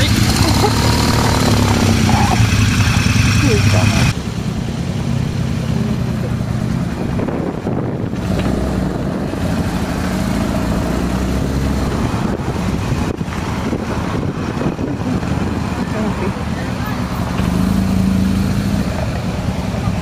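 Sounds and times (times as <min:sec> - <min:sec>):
motorcycle engines running: 0:00.0 - 0:20.0
wind rumbling on microphone: 0:00.2 - 0:17.7.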